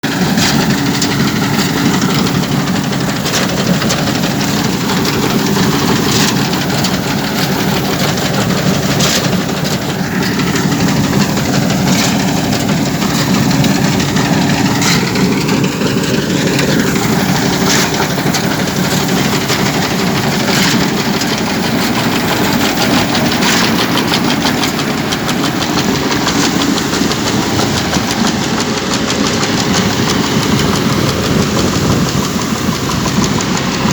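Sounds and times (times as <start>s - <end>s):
combine harvester engine drone: 0.0s - 33.9s
machine rattles and clicks: 0.0s - 33.9s.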